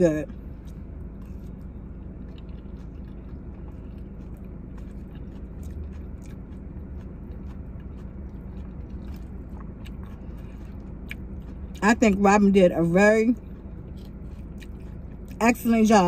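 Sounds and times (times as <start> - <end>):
steady low hum: 0.0 - 16.0
person chewing lettuce: 0.2 - 16.0.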